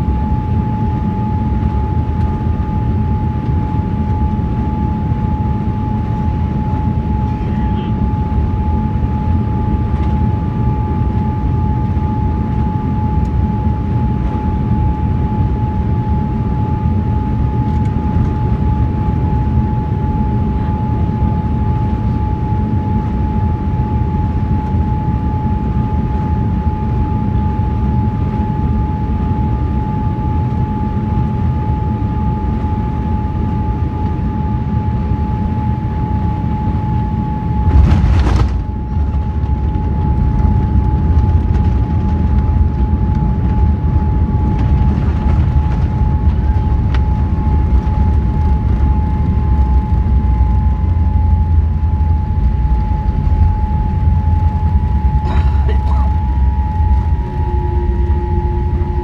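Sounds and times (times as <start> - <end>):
jet engine drone: 0.0 - 59.0
plane rolling on runway rumble: 0.0 - 59.0.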